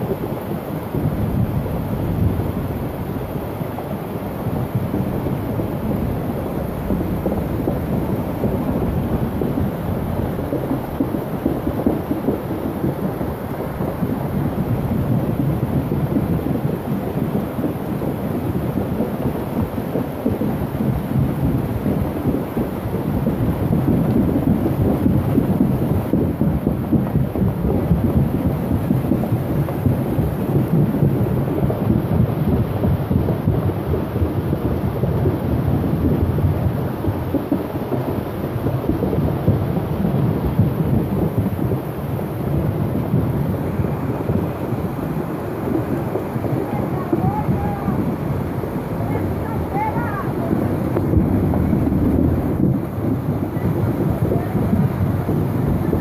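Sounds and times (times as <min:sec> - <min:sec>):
low thunder rumbling: 0:00.0 - 0:56.0
rain: 0:00.0 - 0:56.0.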